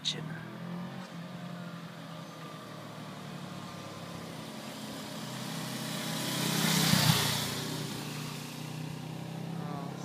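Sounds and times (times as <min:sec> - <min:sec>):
motorcycle passing by: 0:00.0 - 0:10.0.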